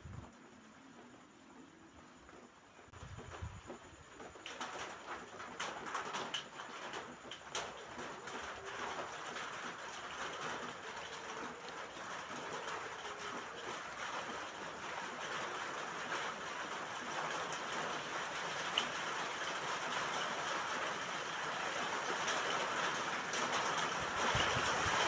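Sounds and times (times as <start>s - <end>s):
rain falling on a roof: 0.0s - 25.0s.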